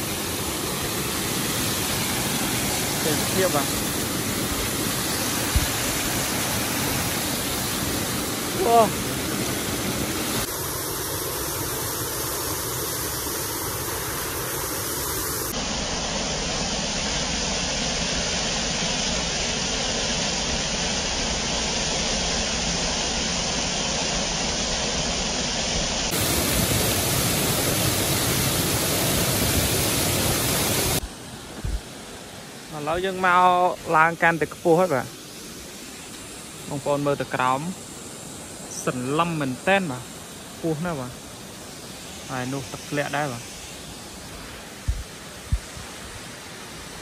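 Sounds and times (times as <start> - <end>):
waterfall rushing over rocks: 0.0 - 47.0.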